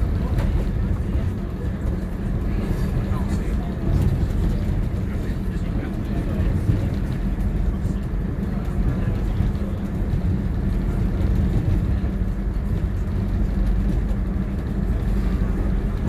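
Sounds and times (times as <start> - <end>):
train engine and wheels rumbling: 0.0 - 16.0.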